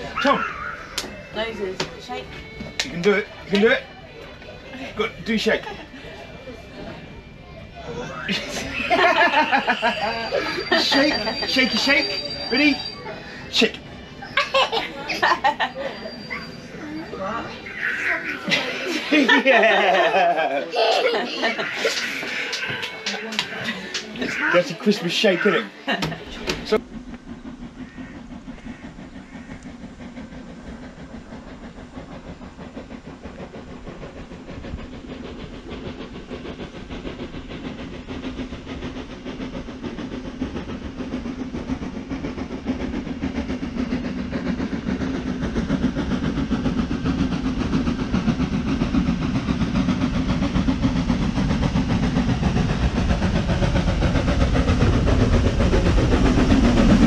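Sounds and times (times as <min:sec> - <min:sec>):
train rumble and wheel clatter: 0:00.0 - 0:57.0.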